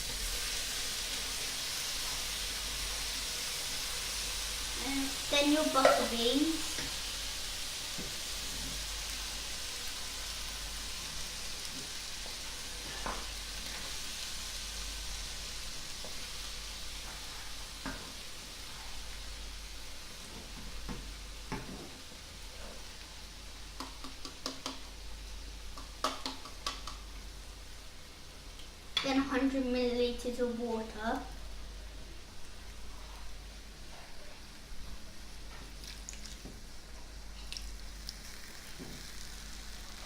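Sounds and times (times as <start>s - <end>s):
sausages sizzling in a pan: 0.0s - 40.0s.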